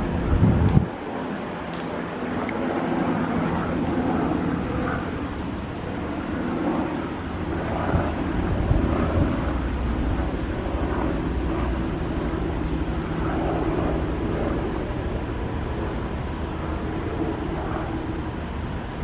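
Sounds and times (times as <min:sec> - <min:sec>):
helicopter flying low: 0:00.0 - 0:19.0.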